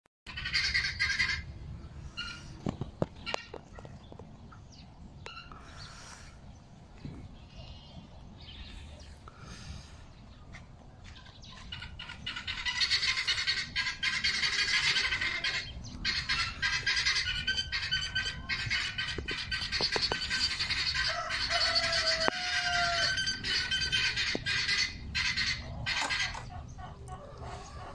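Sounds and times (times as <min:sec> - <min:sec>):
flock of small birds chirping: 0:00.3 - 0:27.9
long steady bird call: 0:00.3 - 0:27.9.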